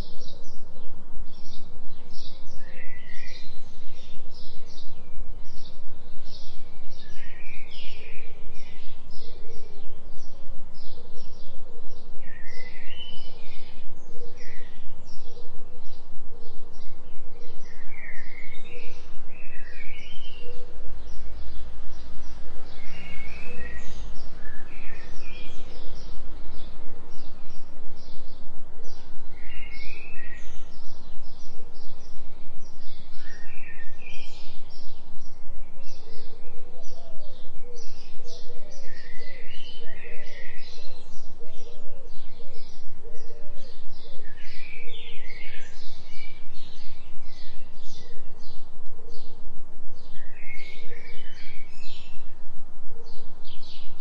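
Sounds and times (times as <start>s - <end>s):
birds chirping: 0.0s - 54.0s
steady low hum tone: 0.0s - 54.0s.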